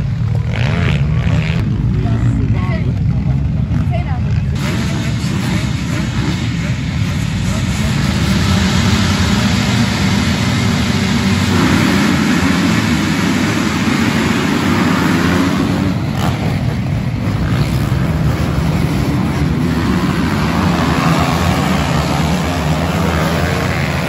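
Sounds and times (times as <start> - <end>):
motocross bikes revving: 0.0 - 24.0
motorbikes accelerating hard: 0.0 - 24.0.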